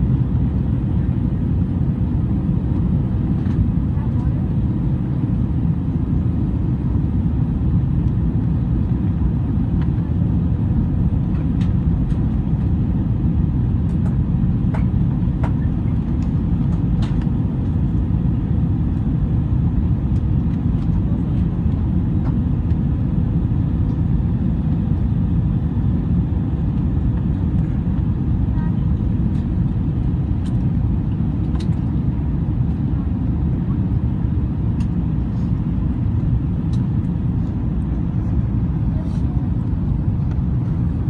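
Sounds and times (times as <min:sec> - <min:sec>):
airliner cabin rumble in flight: 0:00.0 - 0:41.0.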